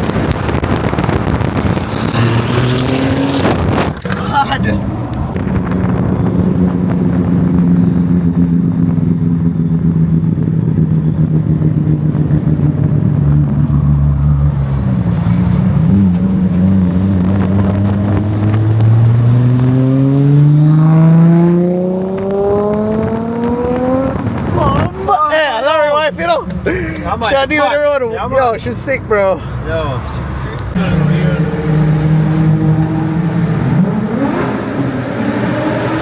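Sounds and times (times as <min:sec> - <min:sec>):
car engine cruising: 0:00.0 - 0:36.0.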